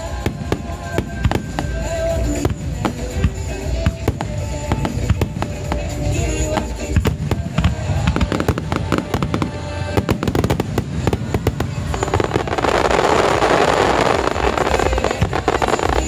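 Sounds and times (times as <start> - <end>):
firework crackling: 0.0 - 16.0
music: 0.0 - 16.0.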